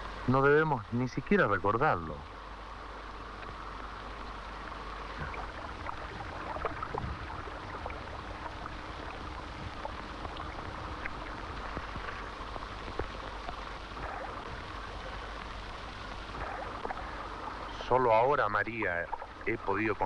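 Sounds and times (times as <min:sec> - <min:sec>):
faint low hum: 0:00.0 - 0:20.0
film soundtrack hiss: 0:00.0 - 0:20.0
crackles and pops: 0:02.0 - 0:20.0.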